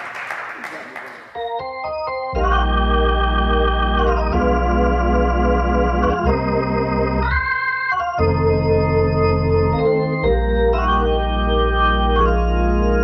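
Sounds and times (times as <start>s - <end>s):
organ-like chords: 1.4s - 13.0s.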